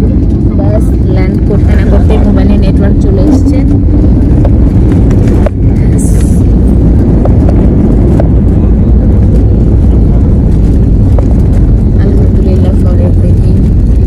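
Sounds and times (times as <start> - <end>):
jet cabin low rumble: 0.0 - 14.0.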